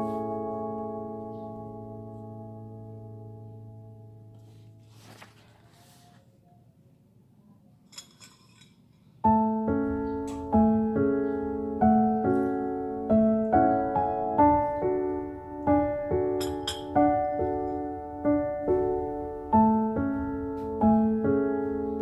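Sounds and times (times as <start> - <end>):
slow piano music: 0.0 - 6.1, 9.0 - 22.0.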